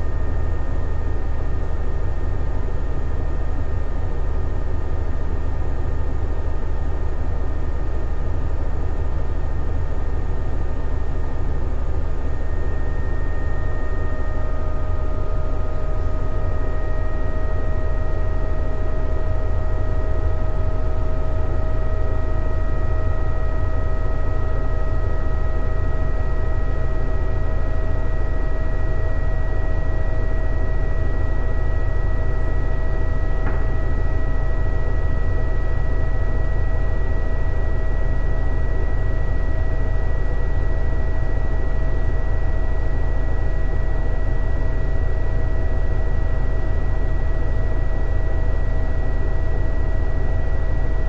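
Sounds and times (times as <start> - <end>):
washing machine spinning: 0.0 - 51.0.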